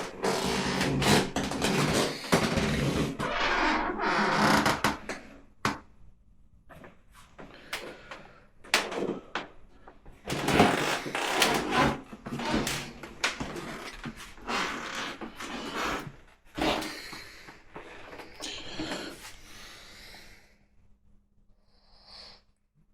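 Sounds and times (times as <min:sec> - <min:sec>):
footsteps on creaky wooden floor: 0:00.0 - 0:05.9, 0:06.7 - 0:19.3.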